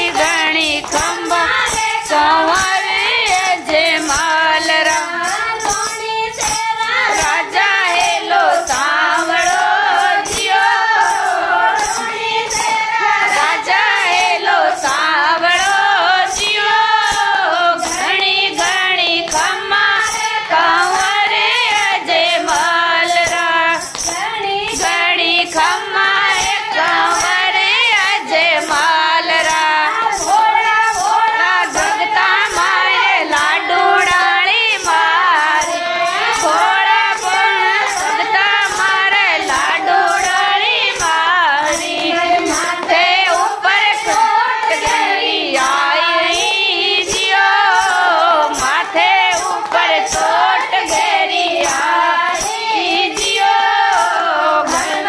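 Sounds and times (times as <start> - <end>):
rhythmic hand claps: 0.0 - 55.0
women singing: 0.0 - 55.0.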